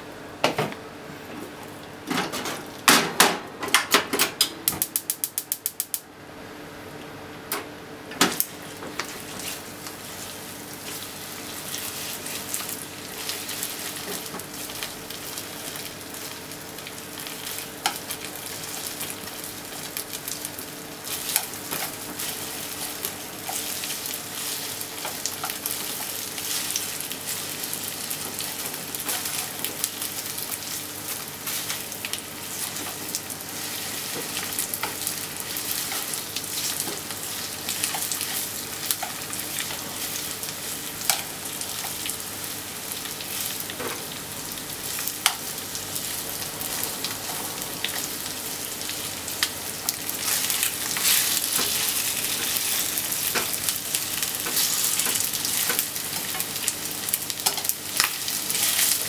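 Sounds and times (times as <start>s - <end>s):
chicken sizzling in a frying pan: 8.2s - 59.0s.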